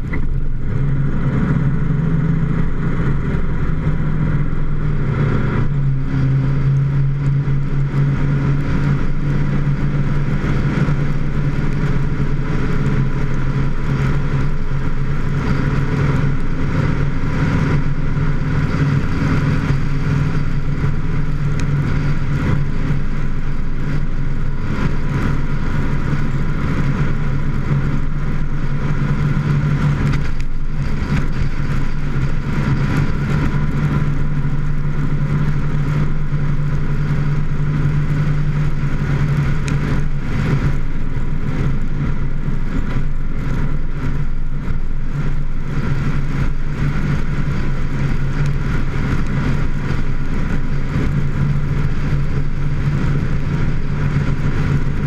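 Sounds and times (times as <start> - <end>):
road noise: 0.0 - 55.0
vehicle engine cruising: 0.0 - 55.0
wind noise: 0.0 - 55.0.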